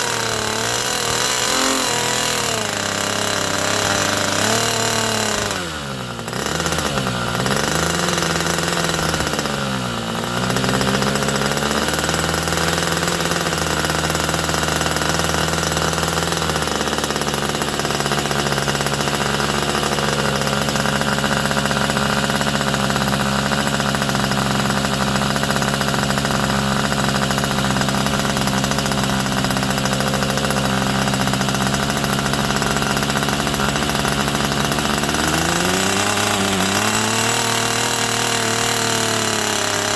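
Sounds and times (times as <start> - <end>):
model engine revving: 0.0 - 39.9.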